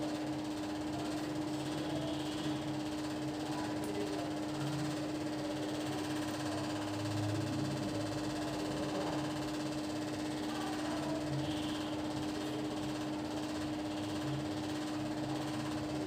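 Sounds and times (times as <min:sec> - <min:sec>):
steady tonal hum: 0:00.0 - 0:16.0.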